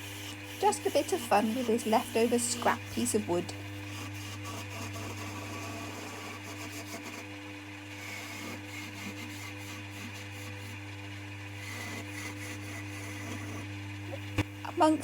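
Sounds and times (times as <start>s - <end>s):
lathe motor humming: 0.0s - 15.0s.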